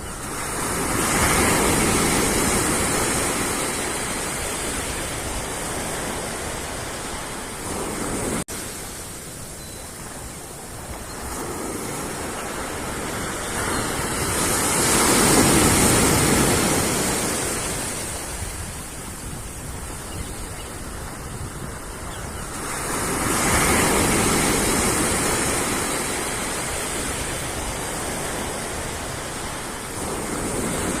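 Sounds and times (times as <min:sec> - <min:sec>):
sea waves washing up a beach: 0:00.0 - 0:31.0.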